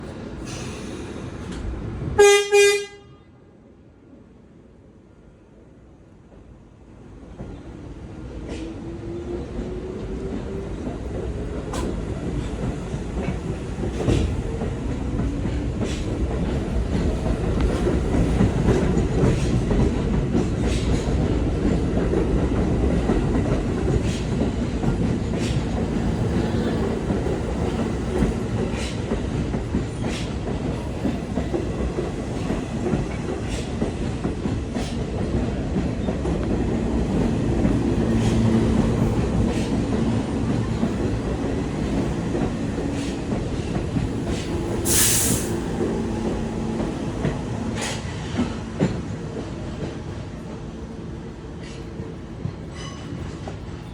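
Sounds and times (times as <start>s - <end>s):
subway train wheels rumbling: 0.0s - 53.9s.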